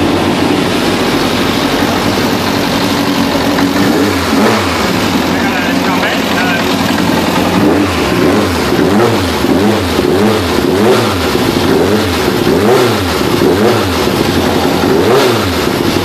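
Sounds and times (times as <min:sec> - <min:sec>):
racing engine revving: 0:00.0 - 0:16.0.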